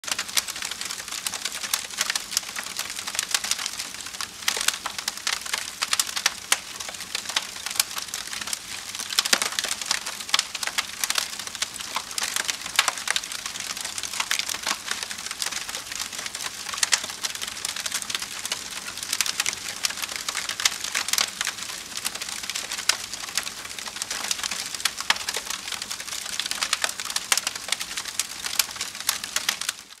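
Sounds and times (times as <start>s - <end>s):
bonfire crackling and popping: 0.0s - 30.0s.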